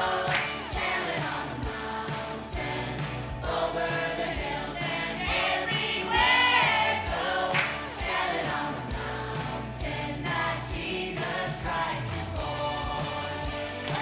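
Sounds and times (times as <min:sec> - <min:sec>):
backing track with steady beat: 0:00.0 - 0:14.0
children's choir singing: 0:00.0 - 0:14.0.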